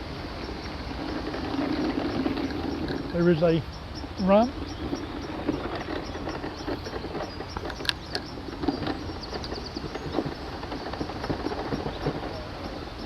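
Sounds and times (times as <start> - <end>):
scooter tyres crunching gravel: 0.0 - 13.0
bird chirps: 0.4 - 13.0.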